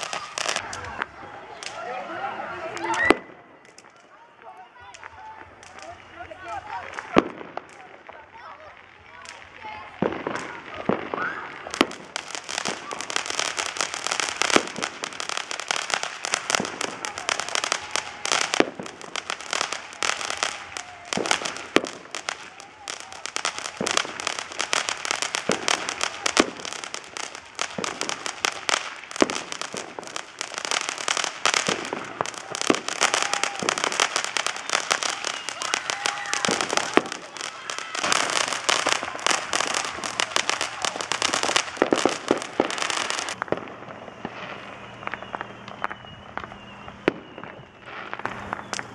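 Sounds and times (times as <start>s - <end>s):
firecrackers crackling and popping: 0.0s - 48.9s
firework bangs: 0.0s - 48.9s.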